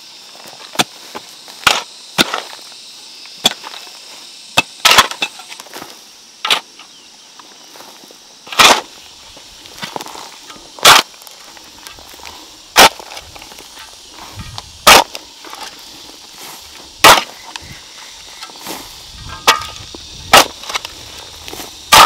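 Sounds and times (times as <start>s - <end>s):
digging tool scraping dirt: 0.4s - 2.7s, 3.4s - 6.8s, 8.4s - 22.0s.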